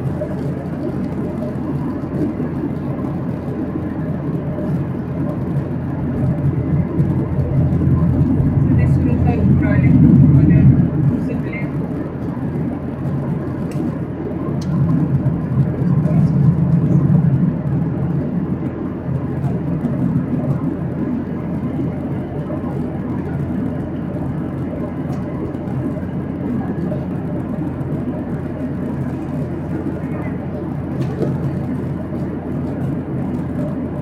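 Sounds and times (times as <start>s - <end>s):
airplane cabin rumble in flight: 0.0s - 34.0s.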